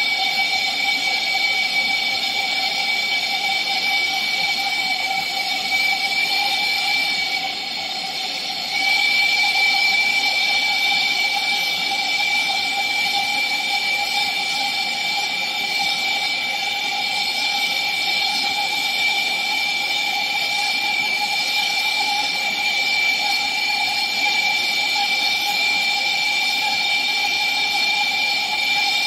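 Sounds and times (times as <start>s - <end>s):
torch flame hissing and whistling: 0.0s - 29.0s.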